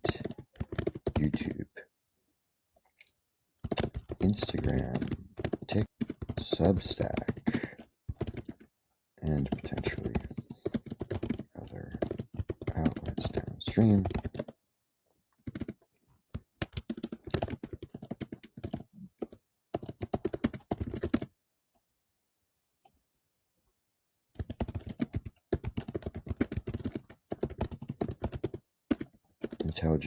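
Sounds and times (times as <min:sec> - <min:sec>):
rapid keyboard typing: 0:00.0 - 0:01.7, 0:03.6 - 0:14.6, 0:15.4 - 0:21.4, 0:24.4 - 0:30.0.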